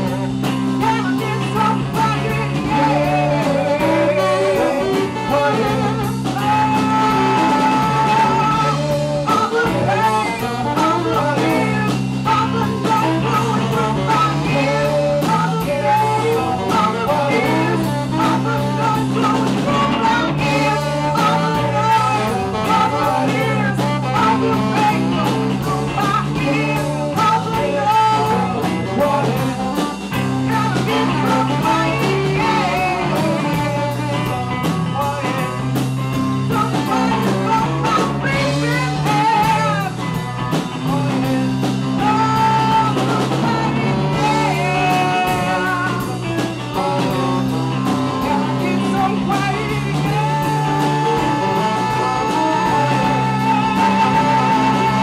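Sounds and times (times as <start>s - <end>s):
bass guitar line: 0.0s - 55.0s
drums: 0.0s - 55.0s
electric guitar: 0.0s - 55.0s
saxophone: 0.0s - 55.0s
woman singing: 0.0s - 55.0s.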